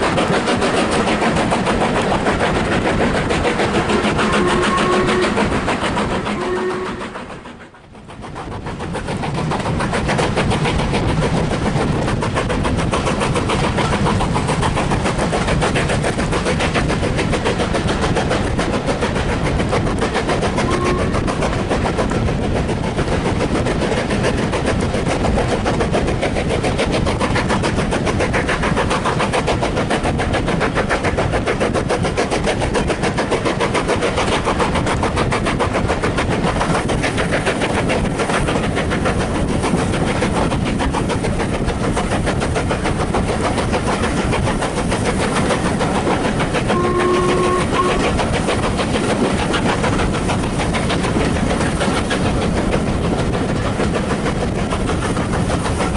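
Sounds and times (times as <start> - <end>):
train rattling and rumbling: 0.0 - 55.9.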